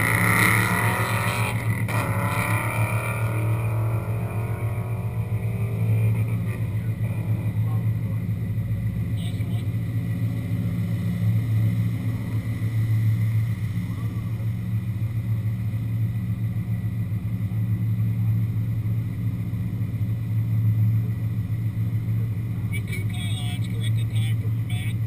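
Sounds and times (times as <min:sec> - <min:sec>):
car engine low rumble: 0:00.0 - 0:25.0.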